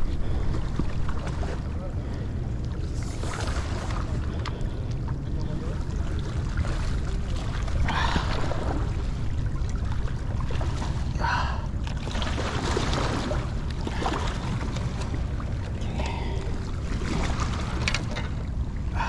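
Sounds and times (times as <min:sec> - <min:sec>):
waves lapping on rocks: 0:00.0 - 0:19.0.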